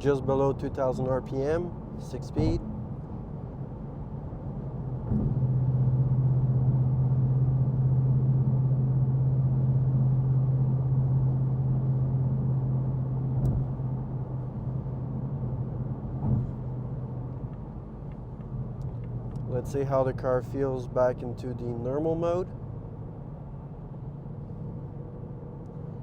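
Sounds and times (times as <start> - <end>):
car exhaust drone: 0.0 - 26.0.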